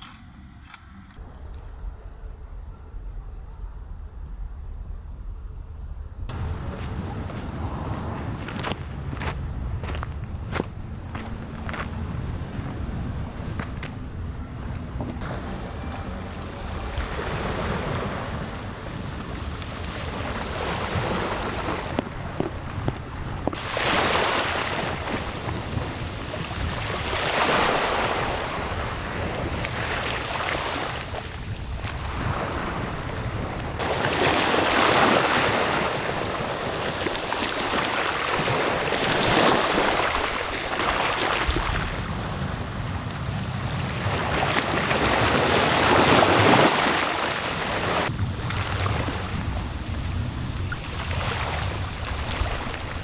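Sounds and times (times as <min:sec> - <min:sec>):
gusting wind: 0:00.0 - 0:53.0
wind buffeting microphone: 0:00.0 - 0:53.0.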